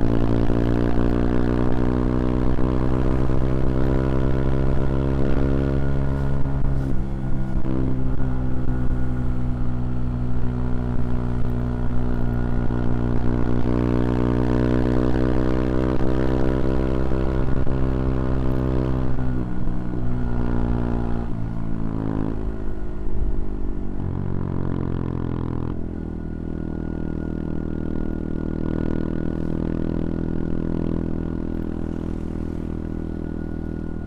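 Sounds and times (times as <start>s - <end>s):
single-cylinder motorcycle engine running: 0.0s - 34.0s.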